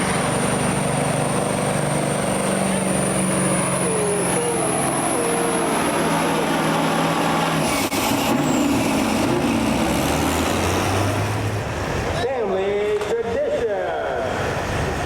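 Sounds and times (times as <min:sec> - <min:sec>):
vehicle engine running loud: 0:00.0 - 0:12.2.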